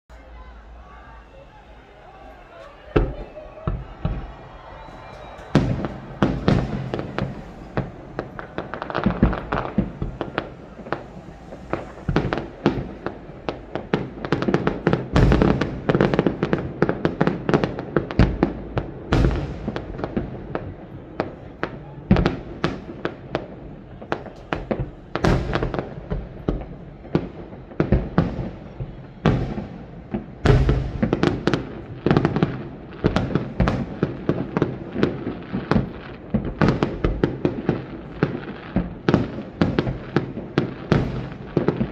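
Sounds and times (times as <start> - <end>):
fireworks bursting with bangs: 0.2 - 41.9.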